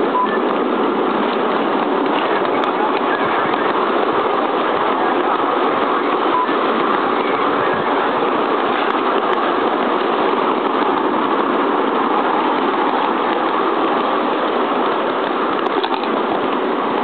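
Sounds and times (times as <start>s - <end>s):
wheels on rails: 0.0s - 17.0s.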